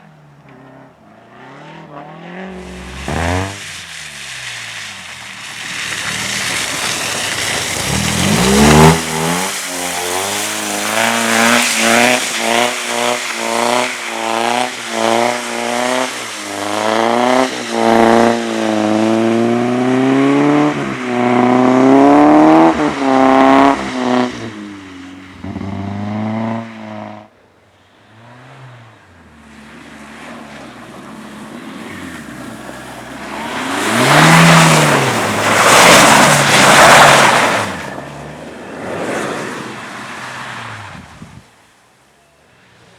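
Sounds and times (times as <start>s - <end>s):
car engine revving hard: 0.0s - 4.2s, 6.0s - 27.3s, 28.1s - 41.1s
car approaching loudly: 0.0s - 42.9s.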